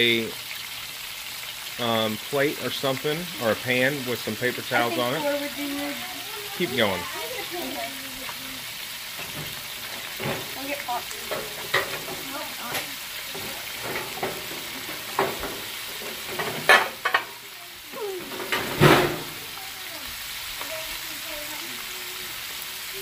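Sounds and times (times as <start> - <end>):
deep-frying sizzle: 0.0 - 23.0.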